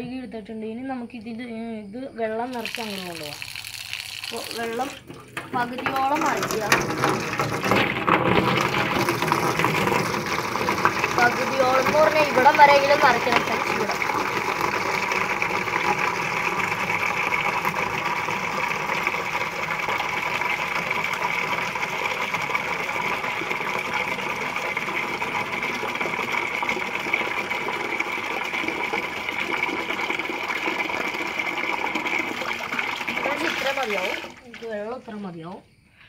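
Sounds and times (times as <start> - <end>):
tap water pouring into water: 2.5 - 35.0.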